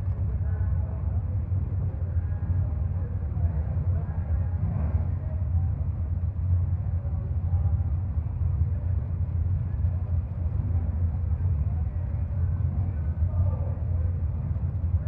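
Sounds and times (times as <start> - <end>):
race car engines idling: 0.0 - 15.0.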